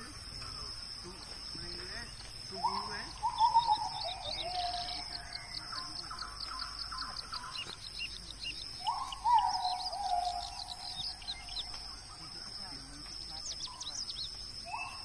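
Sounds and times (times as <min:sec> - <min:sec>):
birds chirping: 0:00.0 - 0:15.0
high insect drone: 0:00.0 - 0:15.0.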